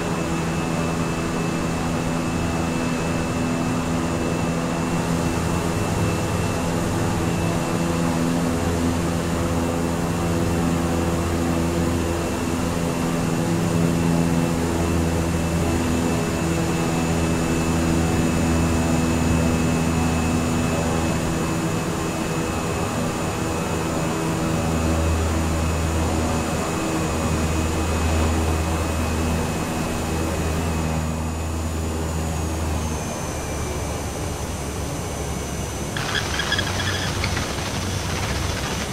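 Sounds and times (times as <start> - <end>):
light aircraft engine droning: 0.0 - 38.9.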